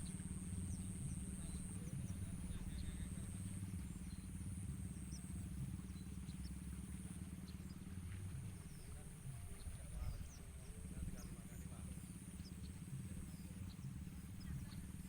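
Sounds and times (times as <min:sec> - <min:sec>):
small engine rumbling: 0:00.0 - 0:15.0.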